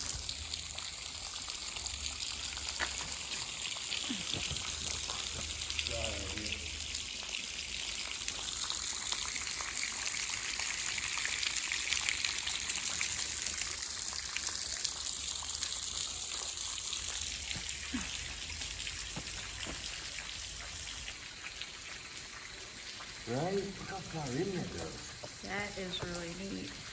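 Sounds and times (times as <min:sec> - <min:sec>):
water dripping in cave: 0:00.0 - 0:26.9.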